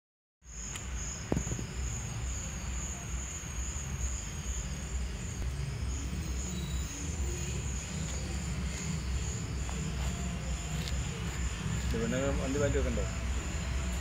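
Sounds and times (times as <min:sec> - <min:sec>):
crickets chirping: 0:00.4 - 0:14.0.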